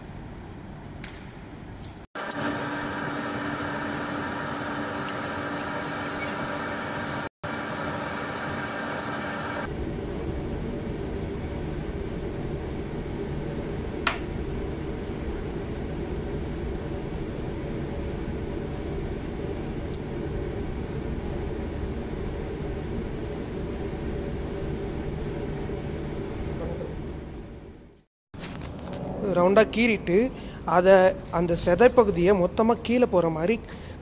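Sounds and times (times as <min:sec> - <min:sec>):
kitchen machinery hum: 0:02.2 - 0:34.0.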